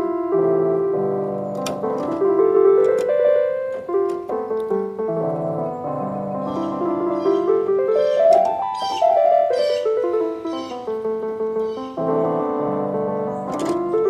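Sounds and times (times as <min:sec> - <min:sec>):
electronic keyboard piano melody: 0:00.0 - 0:14.0.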